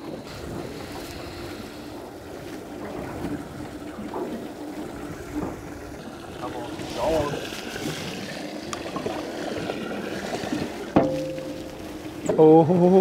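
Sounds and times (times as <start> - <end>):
water lapping against boat hull: 0.0 - 13.0
wind: 0.0 - 13.0.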